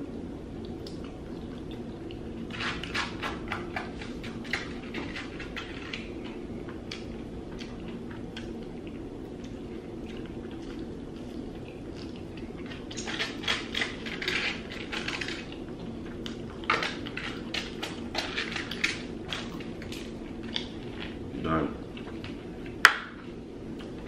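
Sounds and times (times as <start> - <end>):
steady low hum: 0.0 - 24.0
chewing fried chicken: 0.5 - 24.0.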